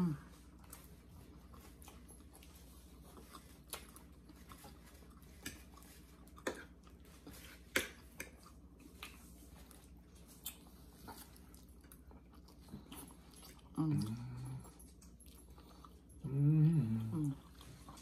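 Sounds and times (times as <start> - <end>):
chewing: 0.0 - 18.0
faint low hum: 0.0 - 18.0.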